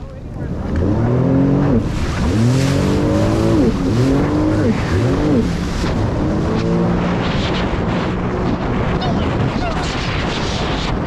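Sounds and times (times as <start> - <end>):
wind and water rushing: 0.0 - 11.0
jet ski engine revving: 0.3 - 9.7.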